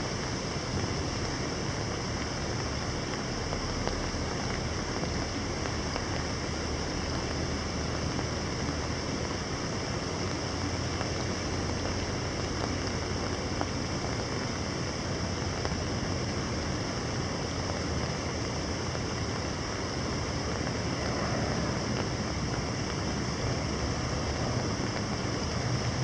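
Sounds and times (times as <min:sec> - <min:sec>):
distant city traffic hum: 0:00.0 - 0:26.0
rain falling on water: 0:00.0 - 0:26.0.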